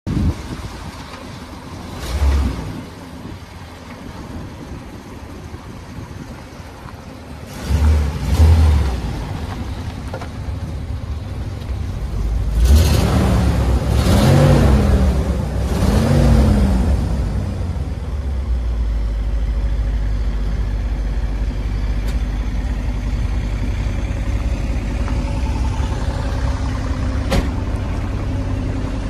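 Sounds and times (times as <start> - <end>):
vehicle engine rumbling and revving: 0.0 - 29.0.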